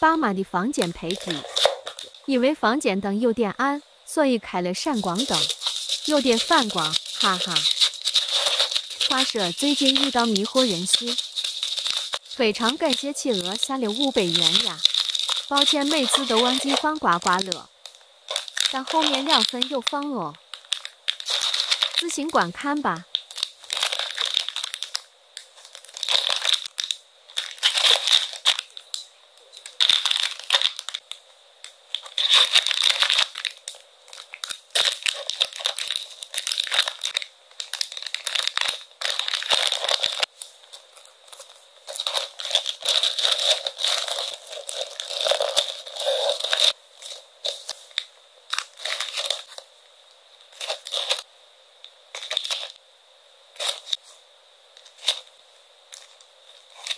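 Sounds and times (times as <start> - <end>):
packaging crinkling and rustling: 0.8 - 2.3, 4.8 - 52.8, 53.5 - 54.2, 54.8 - 56.9.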